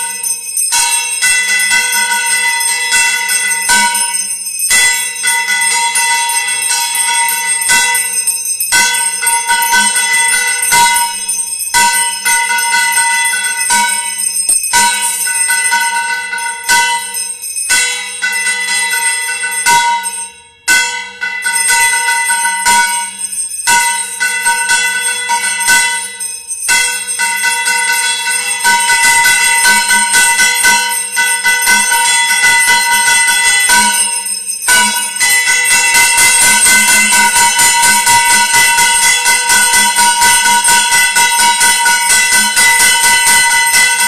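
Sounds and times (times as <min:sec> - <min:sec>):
bells ringing rapidly: 0:00.0 - 0:44.0.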